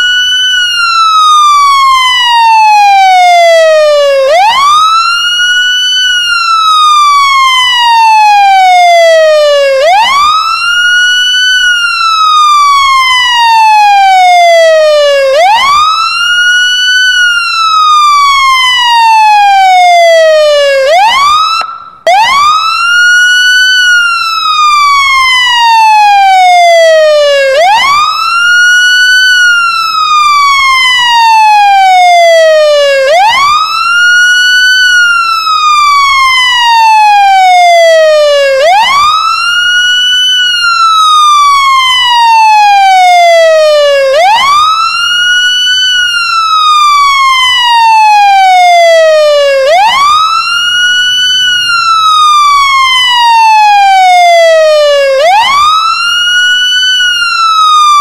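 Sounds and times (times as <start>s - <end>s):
fire truck siren wailing: 0.0s - 58.0s.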